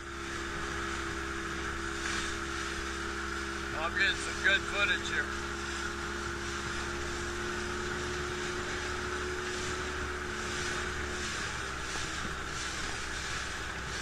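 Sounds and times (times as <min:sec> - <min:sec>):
motorboat engine running: 0:00.0 - 0:14.0
rush of wind and water: 0:00.0 - 0:14.0.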